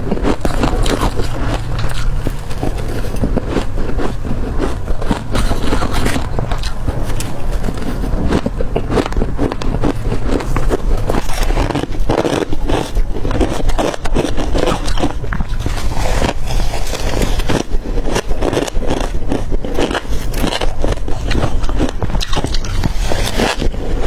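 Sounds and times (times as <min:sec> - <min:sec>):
crunching ice: 0:00.0 - 0:24.0.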